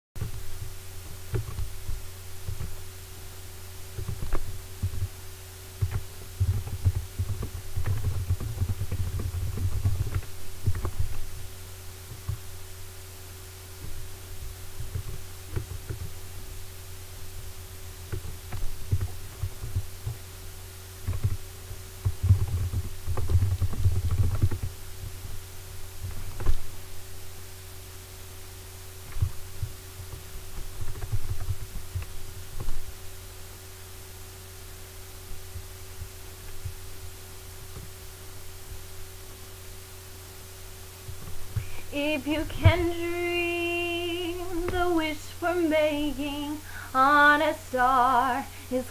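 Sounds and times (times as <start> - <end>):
muffled thumps and clicks: 0.2 - 33.7, 34.3 - 48.1
low steady hum: 0.2 - 48.9.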